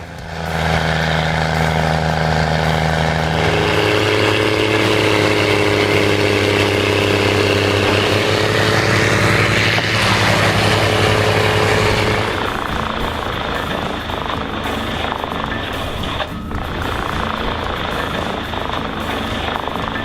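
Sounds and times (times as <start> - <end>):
heavy machine engine running: 0.0 - 20.0
rising hiss: 0.0 - 20.0.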